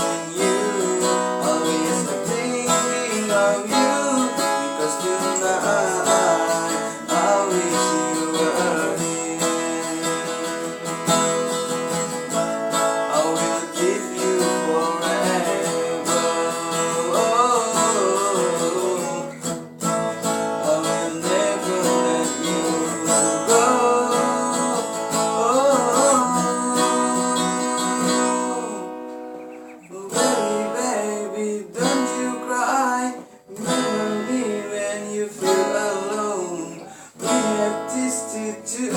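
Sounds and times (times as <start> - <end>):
acoustic guitar music: 0.0 - 38.9.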